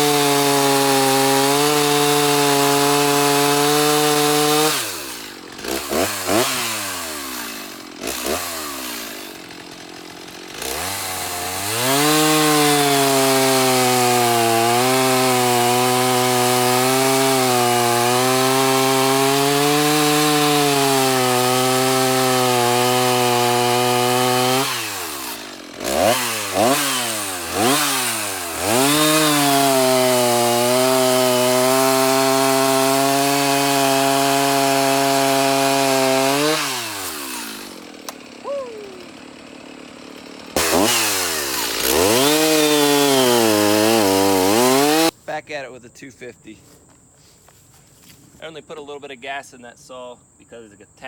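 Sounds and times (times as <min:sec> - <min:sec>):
chainsaw revving: 0:00.0 - 0:45.2.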